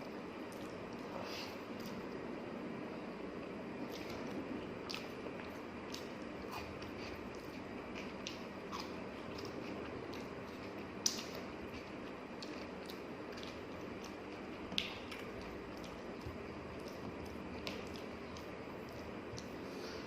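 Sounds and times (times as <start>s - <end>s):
low background hum: 0.0s - 20.0s
person chewing food: 0.4s - 2.2s, 3.8s - 20.0s.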